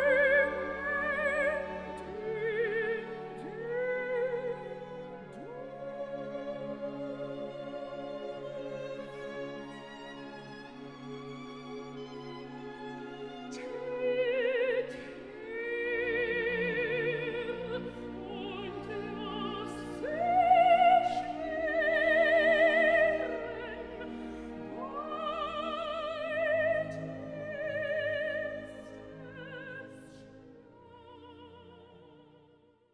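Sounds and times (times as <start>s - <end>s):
operatic classical music: 0.0s - 32.9s.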